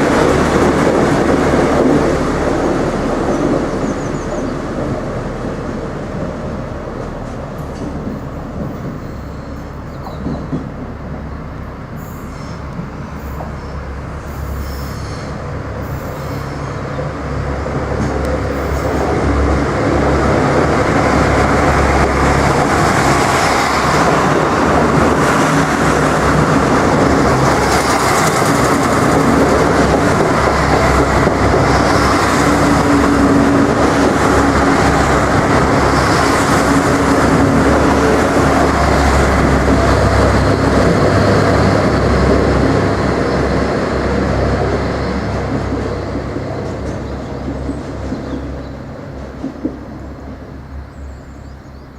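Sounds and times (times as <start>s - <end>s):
train wheels on rails: 0.0s - 51.4s
diesel train engine hum: 0.0s - 51.9s.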